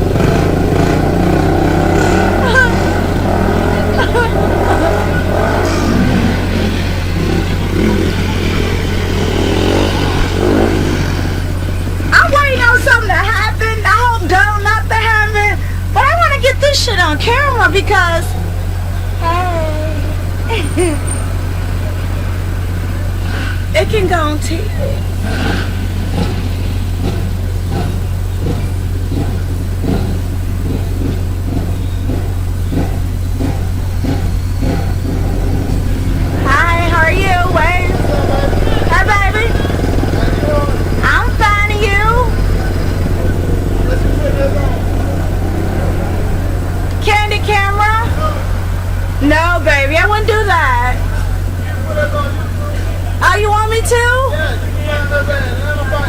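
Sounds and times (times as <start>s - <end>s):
motorcycle engines revving: 0.0s - 56.0s
steady low rumble: 0.0s - 56.0s.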